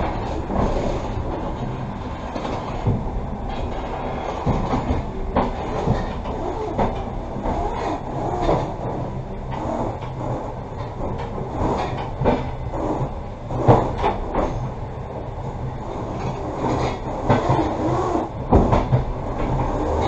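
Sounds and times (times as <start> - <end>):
train rolling rumble: 0.0 - 20.0
wheels clicking over rails: 0.0 - 20.0.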